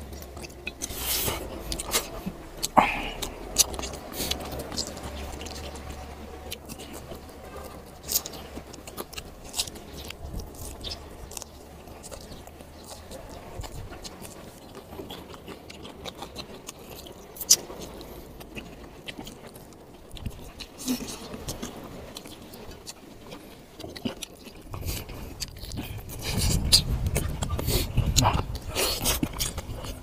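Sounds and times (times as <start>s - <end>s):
crisp clicks and lip smacks: 0.0s - 30.0s
man biting and chewing: 0.0s - 30.0s.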